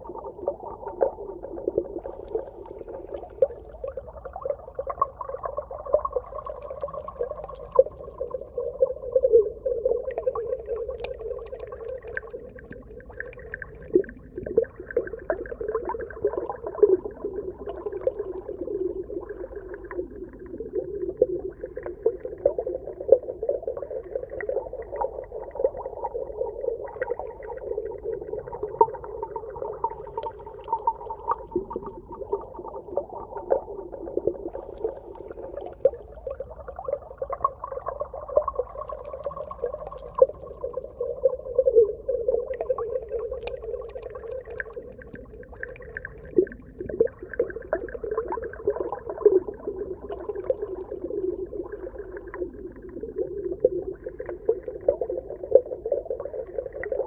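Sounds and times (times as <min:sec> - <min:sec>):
underwater wavering hum: 0:00.0 - 0:57.0.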